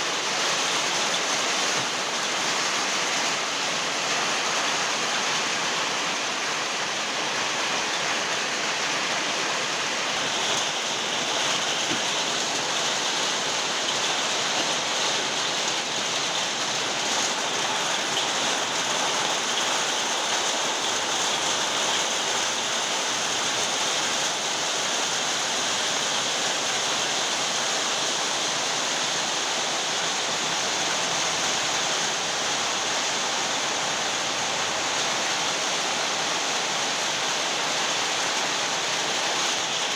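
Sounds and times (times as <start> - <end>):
very heavy rain pouring: 0.0 - 39.9.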